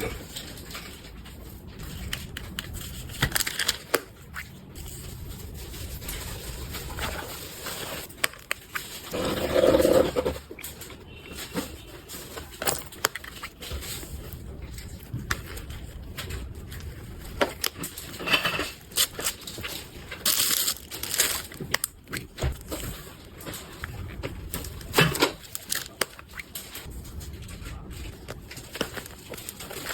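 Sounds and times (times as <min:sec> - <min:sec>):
packaging rustling: 0:00.0 - 0:29.9.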